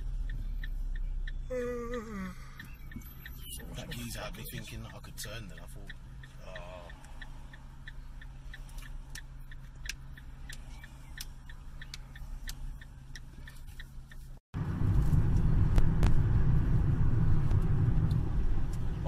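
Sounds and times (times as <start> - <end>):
engine and road noise: 0.0 - 19.0
low engine hum: 0.0 - 19.0
turn signal ticking: 0.0 - 19.0.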